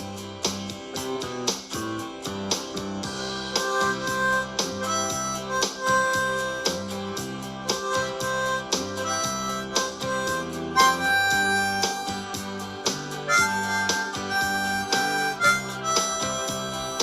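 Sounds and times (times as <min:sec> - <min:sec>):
band backing track: 0:00.0 - 0:17.0
harmonica solo: 0:03.1 - 0:17.0.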